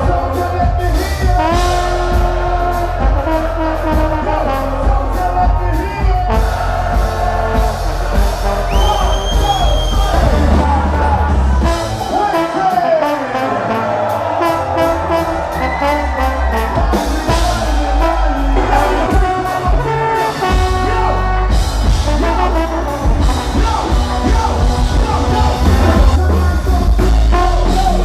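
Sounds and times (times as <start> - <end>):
heavy bass: 0.0 - 28.0
live ska band playing: 0.0 - 28.0
trombone: 0.0 - 28.0.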